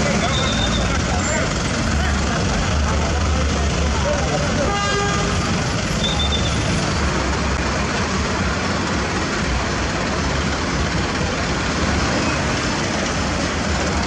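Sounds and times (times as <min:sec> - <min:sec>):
truck engines running: 0:00.0 - 0:14.0.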